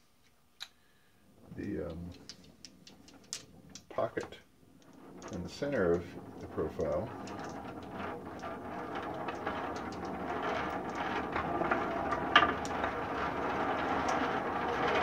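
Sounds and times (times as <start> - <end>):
marbles rolling on wooden ramp: 1.4 - 15.0.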